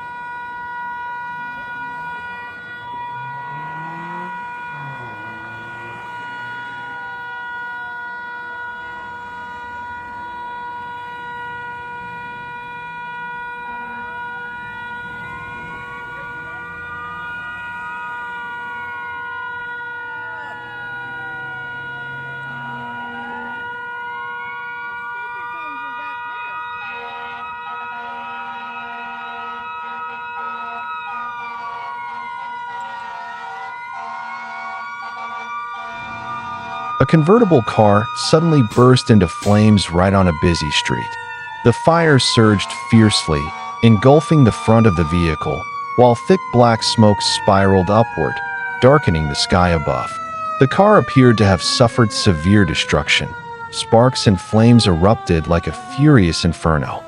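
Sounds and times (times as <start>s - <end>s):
faint wailing siren: 0.0s - 57.0s
steady high siren: 0.0s - 57.0s.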